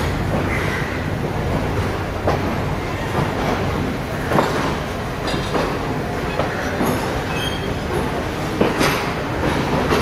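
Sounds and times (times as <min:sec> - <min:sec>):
track clanks and knocks: 0:00.0 - 0:10.0
train wheels on rails: 0:00.0 - 0:10.0.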